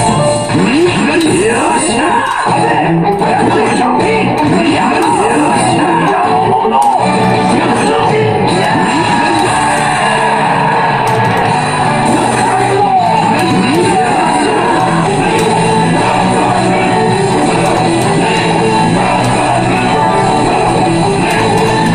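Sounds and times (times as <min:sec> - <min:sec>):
rock music with guitar: 0:00.0 - 0:21.9
shouted vocals: 0:00.6 - 0:21.9.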